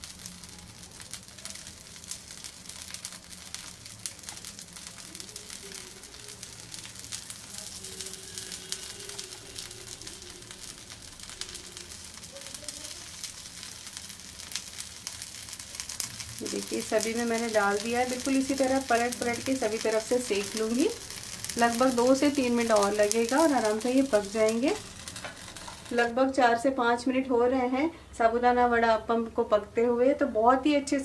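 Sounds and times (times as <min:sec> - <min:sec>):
ghee sizzling and crackling: 0:00.0 - 0:31.0.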